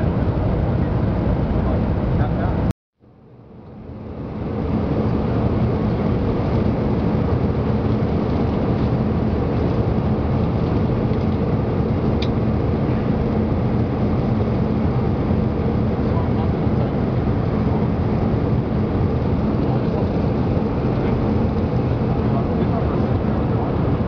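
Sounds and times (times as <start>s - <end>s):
aircraft engine drone: 0.0s - 24.0s
airflow rushing past fuselage: 0.0s - 24.0s
low hum: 0.0s - 24.0s.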